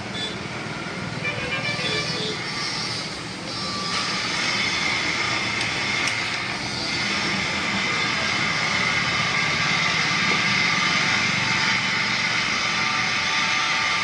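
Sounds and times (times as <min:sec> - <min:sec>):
electric motor whine: 0:01.9 - 0:14.0.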